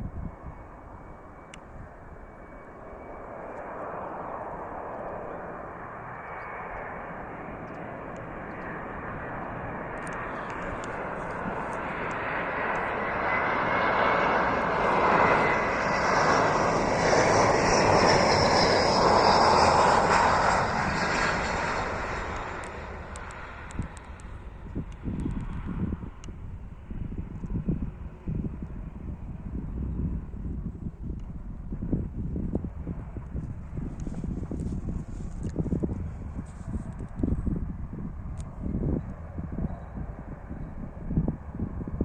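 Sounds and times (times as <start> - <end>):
jet airliner roaring past: 0.0 - 42.0.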